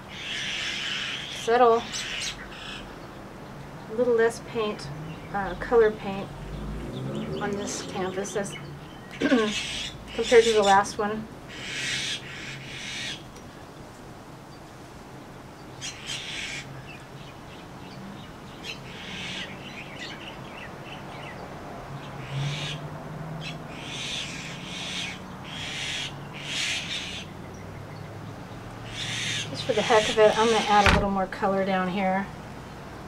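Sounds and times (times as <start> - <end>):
birds calling in scratchy bursts: 0.0 - 13.6, 15.6 - 21.4, 22.0 - 22.8, 23.4 - 31.8.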